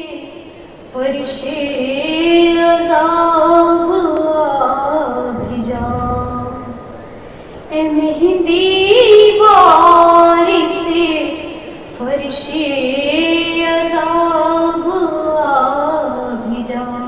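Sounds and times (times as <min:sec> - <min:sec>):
woman singing: 0:00.0 - 0:06.8, 0:07.7 - 0:17.0.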